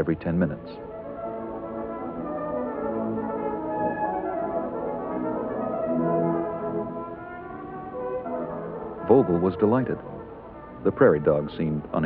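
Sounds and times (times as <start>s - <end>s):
orchestral music with brass: 0.0s - 12.0s.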